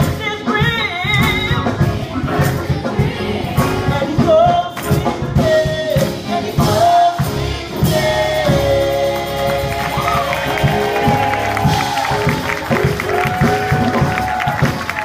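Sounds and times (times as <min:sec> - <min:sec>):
gospel singer and choir: 0:00.0 - 0:15.0
instrumental backing with beat: 0:00.0 - 0:15.0.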